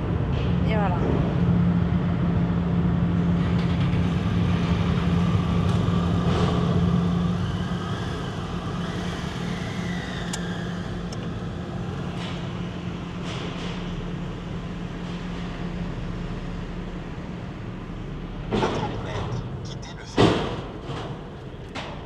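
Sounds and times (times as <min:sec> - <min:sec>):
mechanical rumble: 0:00.0 - 0:22.0
vehicle engines idling: 0:00.0 - 0:22.0.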